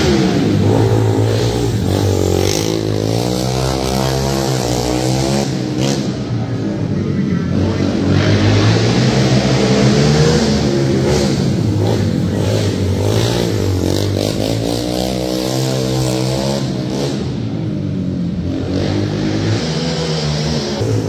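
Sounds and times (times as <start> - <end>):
quad engine revving: 0.0 - 6.5, 7.5 - 17.6, 18.5 - 21.0.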